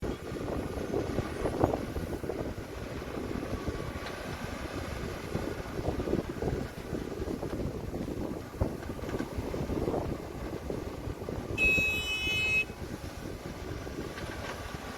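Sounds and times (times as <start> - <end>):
heavy machinery diesel rumble: 0.0 - 14.9.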